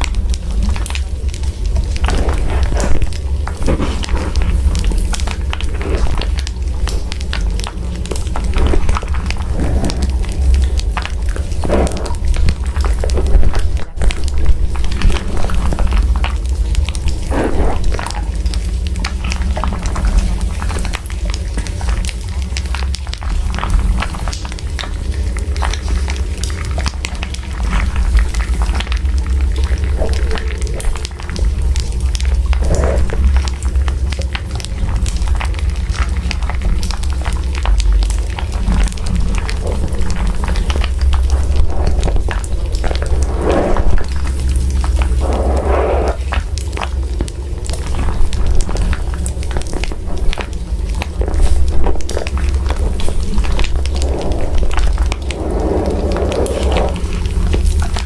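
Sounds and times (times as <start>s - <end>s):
crackling and popping: 0.0s - 58.0s
deep rumble: 0.0s - 58.0s
steady low hum: 0.0s - 58.0s.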